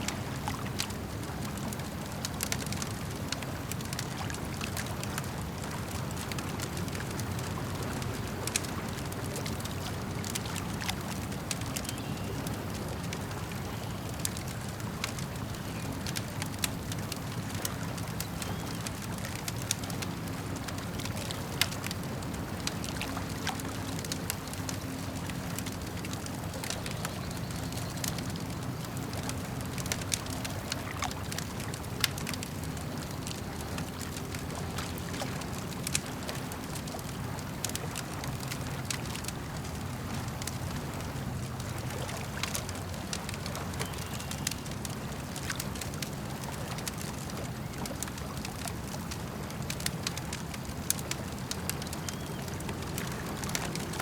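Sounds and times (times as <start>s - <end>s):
campfire crackling: 0.0s - 54.0s
lake water lapping: 0.0s - 54.0s.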